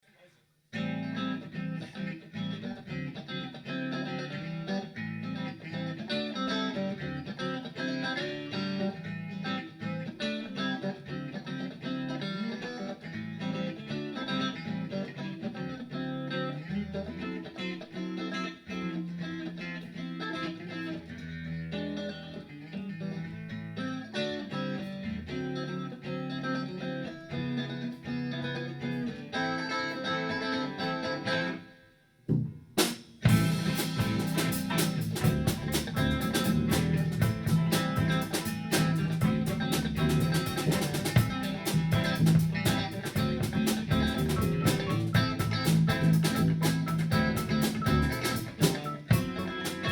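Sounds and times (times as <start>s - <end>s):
bluesy guitar playing: 0.7s - 49.9s.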